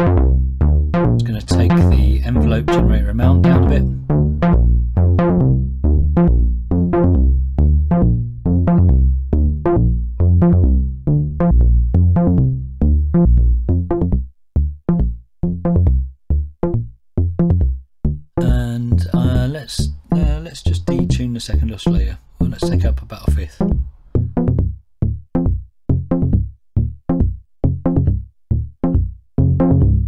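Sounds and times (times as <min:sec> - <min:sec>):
synthesizer bass pattern: 0:00.0 - 0:17.7, 0:18.4 - 0:26.4.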